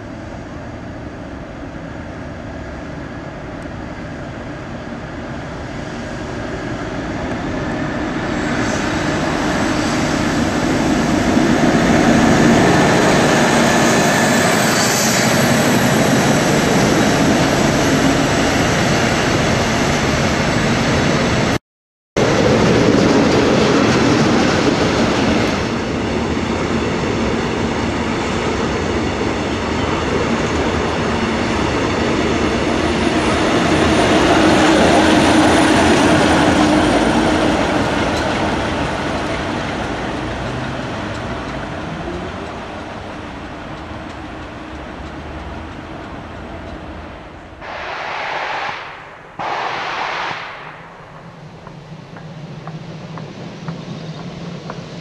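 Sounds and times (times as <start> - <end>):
diesel locomotive engine under load: 0.0 - 21.6, 22.2 - 48.0, 50.5 - 55.0.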